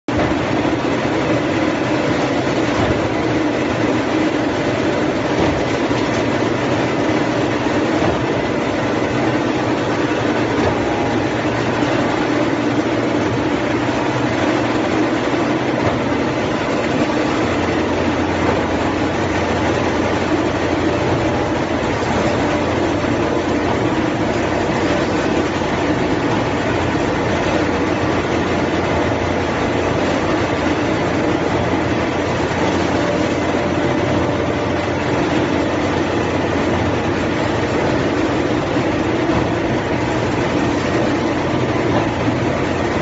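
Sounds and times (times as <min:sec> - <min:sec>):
loud steady machine din: 0:00.0 - 0:43.0.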